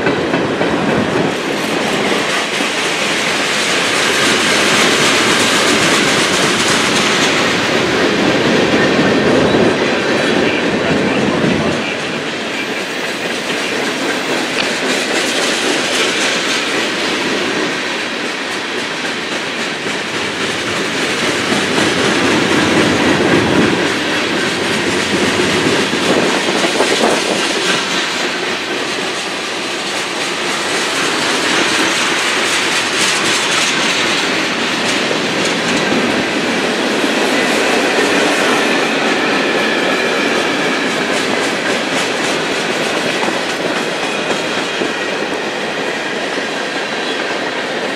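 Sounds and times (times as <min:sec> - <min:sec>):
freight train cars rolling: 0:00.0 - 0:47.9.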